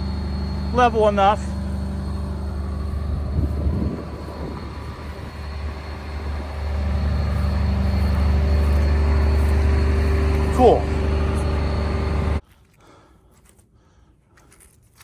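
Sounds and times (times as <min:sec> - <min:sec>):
excavator diesel engine: 0:00.0 - 0:12.4.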